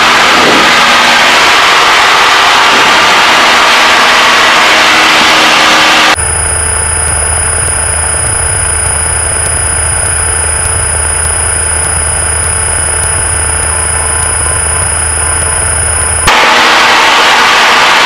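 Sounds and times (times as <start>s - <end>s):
aircraft engine and propeller drone: 0.0s - 18.0s
loud even rushing noise: 0.0s - 18.0s
thin high whine: 0.0s - 18.0s.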